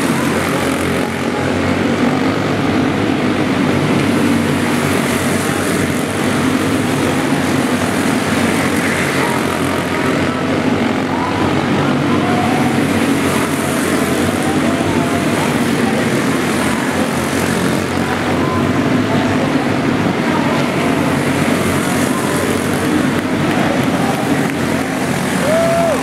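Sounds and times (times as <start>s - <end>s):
go-kart engines droning: 0.0s - 26.0s.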